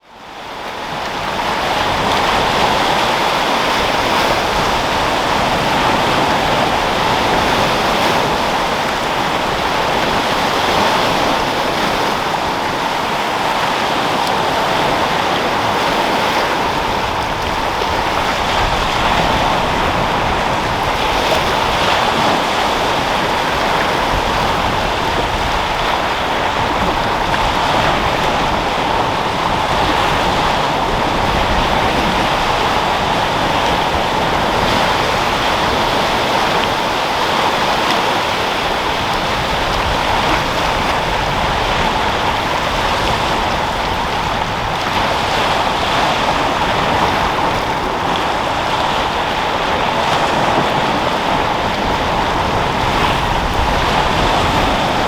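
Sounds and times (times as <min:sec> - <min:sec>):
sea waves breaking: 0:00.0 - 0:55.0
wind: 0:00.0 - 0:55.0.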